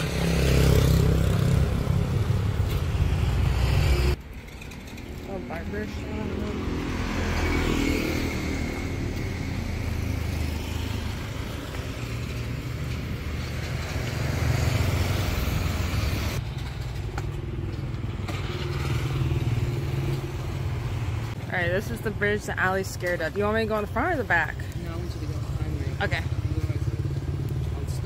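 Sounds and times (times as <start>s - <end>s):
road and wind hiss: 0.0s - 28.0s.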